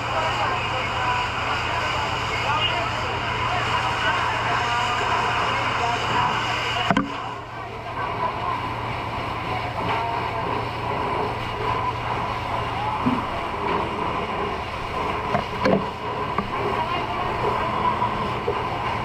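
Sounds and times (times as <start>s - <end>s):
engine running: 0.0s - 19.0s
low hum: 0.0s - 19.0s
background voices: 0.2s - 19.0s.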